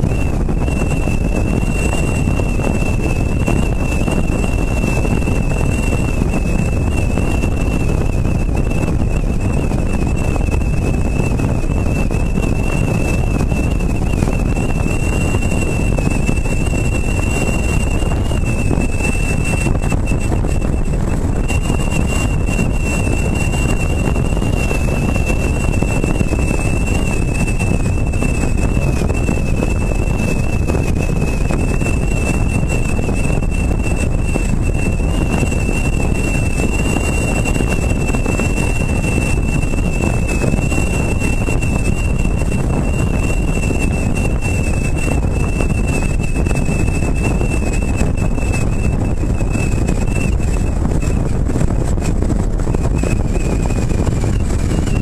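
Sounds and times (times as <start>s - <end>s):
road rumble: 0.0s - 55.0s
wind buffeting: 0.0s - 55.0s
high wavering whistle: 0.6s - 51.2s.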